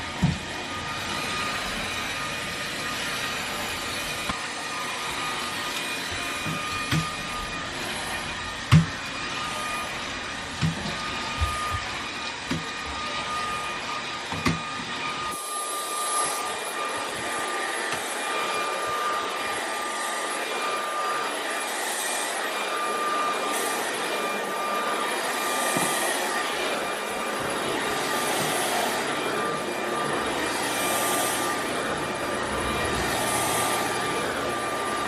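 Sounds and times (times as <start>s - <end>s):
stick vacuum whirring: 0.0s - 35.0s.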